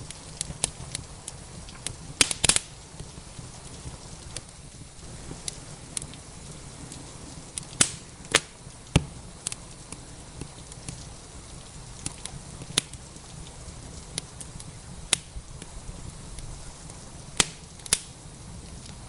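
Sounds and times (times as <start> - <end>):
rain hissing: 0.0 - 19.0
wood fire crackling: 0.0 - 19.0.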